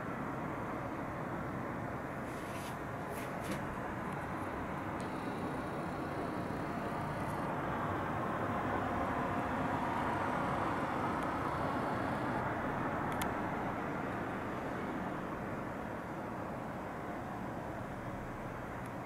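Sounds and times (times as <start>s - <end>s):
distant traffic: 0.0s - 19.0s.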